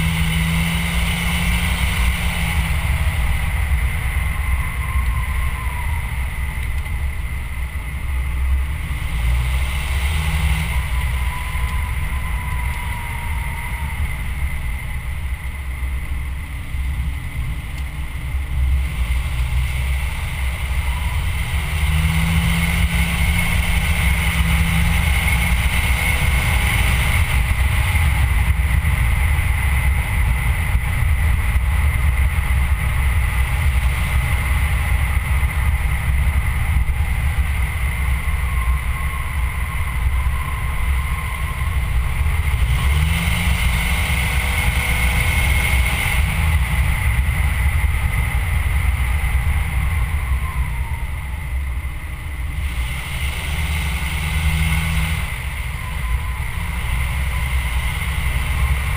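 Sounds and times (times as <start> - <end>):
wind and road noise: 0.0 - 58.9.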